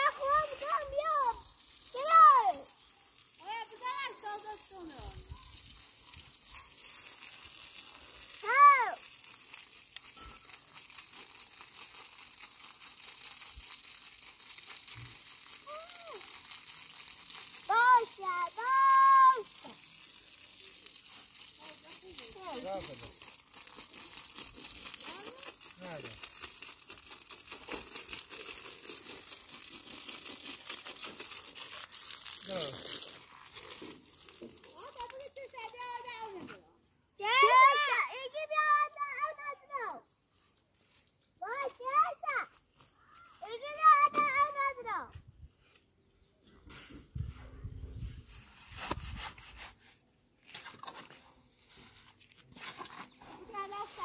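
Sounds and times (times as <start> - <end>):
hose spraying water on ground: 0.0 - 36.5, 37.2 - 45.1, 46.5 - 54.0.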